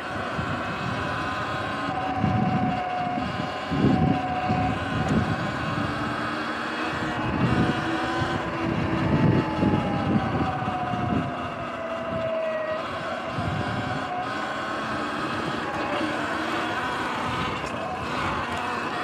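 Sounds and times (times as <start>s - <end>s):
electric motorbike motor whining: 0.0s - 19.0s
wind buffeting microphone: 0.0s - 19.0s.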